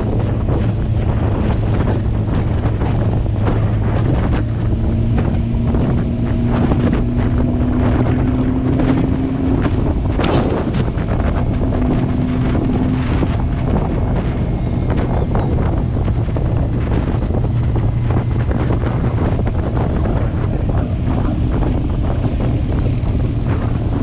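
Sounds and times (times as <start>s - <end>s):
motorcycle engine hum: 0.0s - 24.0s
wind buffeting microphone: 0.0s - 24.0s.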